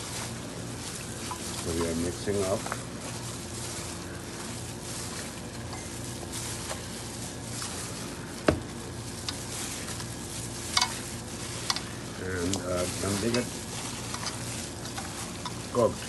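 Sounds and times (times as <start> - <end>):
faint steady hum: 0.0 - 16.0
plastic glove rustling: 0.0 - 16.0
wet squishing of marinade: 0.0 - 16.0.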